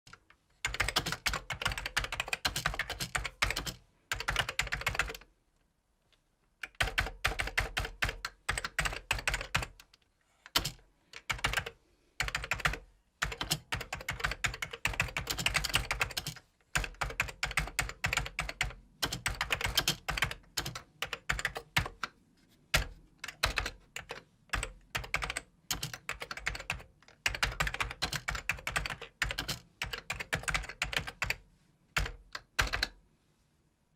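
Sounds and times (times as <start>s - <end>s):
typing on computer keyboard: 0.1s - 5.3s, 6.6s - 22.1s, 22.7s - 31.4s, 32.0s - 33.0s.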